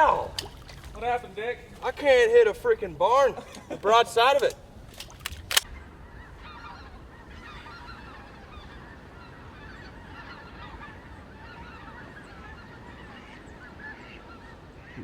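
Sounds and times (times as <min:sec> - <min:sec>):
flock of waterfowl calling: 0:00.0 - 0:04.4, 0:05.6 - 0:15.0.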